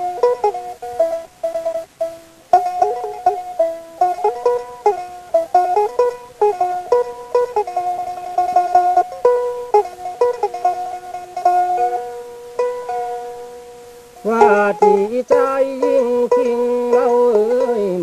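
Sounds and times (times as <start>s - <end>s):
plucked string instrument melody: 0.0s - 18.0s.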